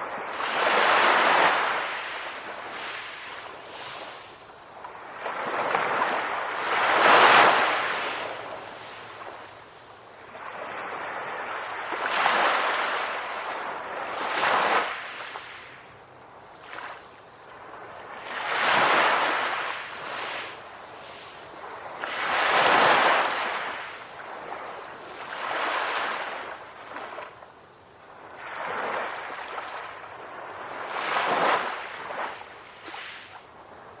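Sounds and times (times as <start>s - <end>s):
ocean waves washing ashore: 0.0s - 34.0s.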